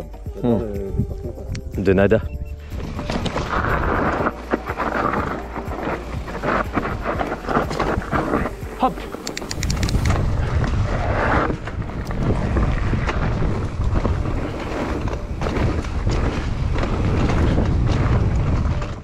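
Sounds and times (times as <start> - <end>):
wind rumbling on microphone: 0.3 - 19.0
bike knocking and rattling over rocks: 2.7 - 19.0.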